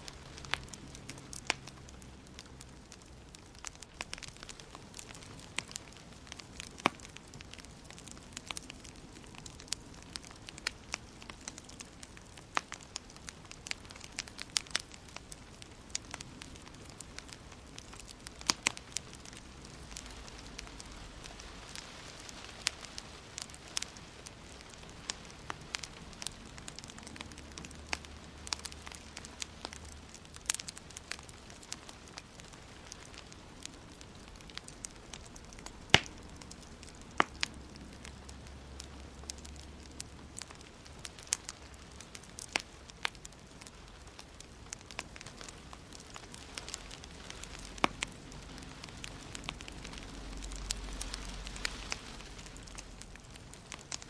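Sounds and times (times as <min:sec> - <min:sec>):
fire hissing: 0:00.0 - 0:54.0
wood fire crackling and popping: 0:00.0 - 0:54.0.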